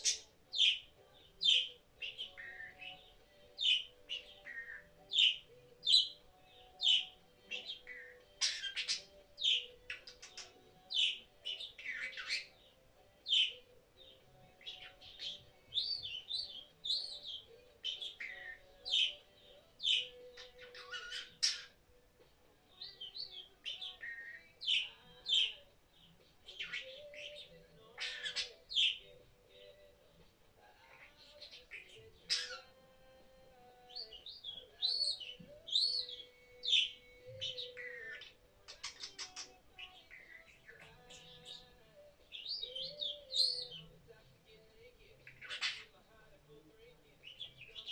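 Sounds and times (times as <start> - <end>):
budgerigar chirping and warbling: 0.0 - 21.9, 22.7 - 29.7, 30.8 - 32.9, 33.8 - 44.0, 45.2 - 46.1, 47.2 - 47.9.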